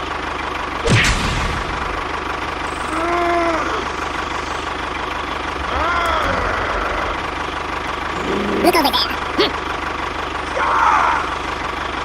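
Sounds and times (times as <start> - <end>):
small engine idling: 0.0 - 0.8, 1.6 - 12.0.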